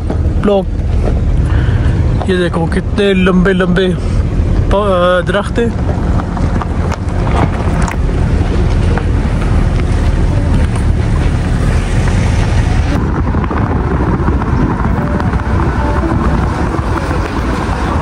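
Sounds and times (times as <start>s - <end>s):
car road and engine rumble: 0.0s - 18.0s
wind buffeting microphone: 0.0s - 18.0s.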